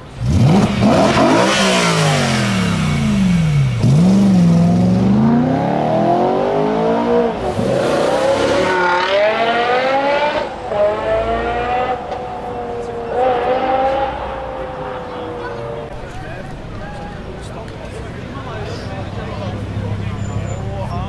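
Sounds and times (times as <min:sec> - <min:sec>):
car engines accelerating hard: 0:00.0 - 0:21.0.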